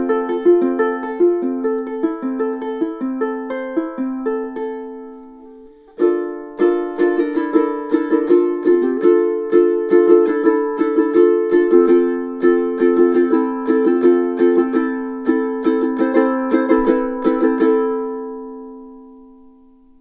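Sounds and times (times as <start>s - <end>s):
ukulele plucked notes: 0.0s - 20.0s.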